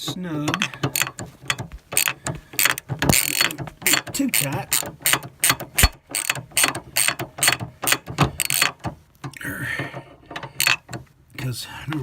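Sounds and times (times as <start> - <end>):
hand ratchet clicking: 0.0 - 11.1.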